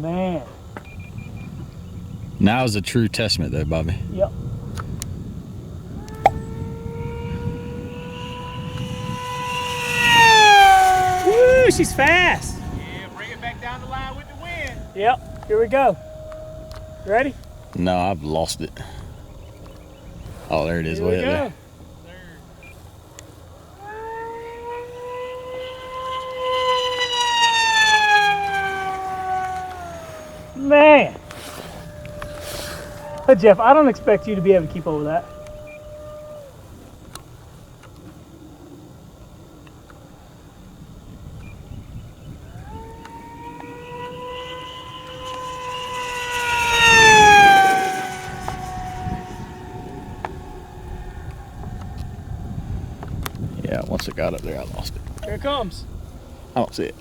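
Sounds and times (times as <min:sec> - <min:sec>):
model plane motor whine passing: 0:00.0 - 0:57.0.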